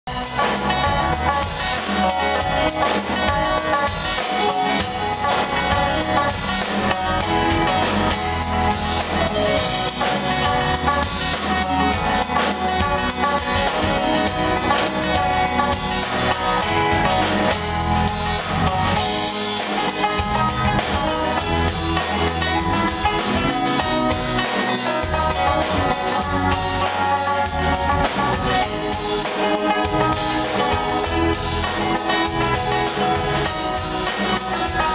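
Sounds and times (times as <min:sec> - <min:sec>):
live band playing: 0:00.0 - 0:34.9.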